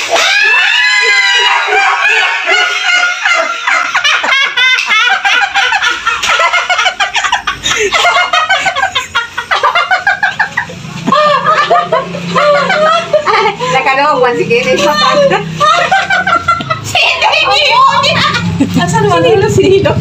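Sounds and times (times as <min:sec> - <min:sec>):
people laughing: 0:00.0 - 0:20.0.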